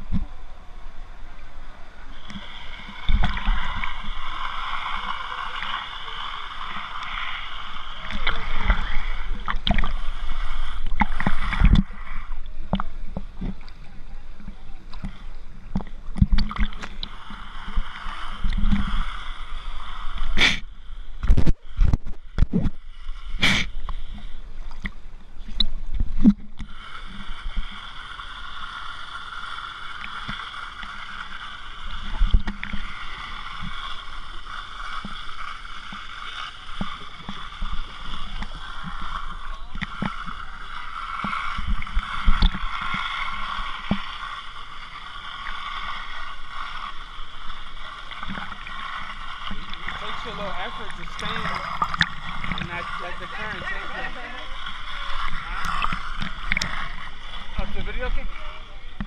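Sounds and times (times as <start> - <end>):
churning water rushing: 0.0 - 59.0
pool water sloshing and splashing: 2.1 - 20.6, 21.2 - 59.0.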